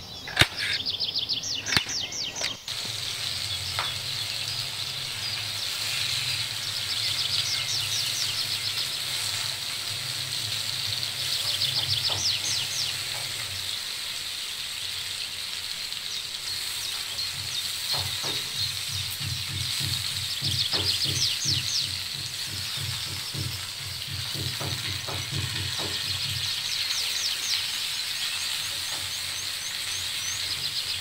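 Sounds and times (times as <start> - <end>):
birds chirping: 0.0 - 31.0
food sizzling in a skillet: 2.6 - 31.0.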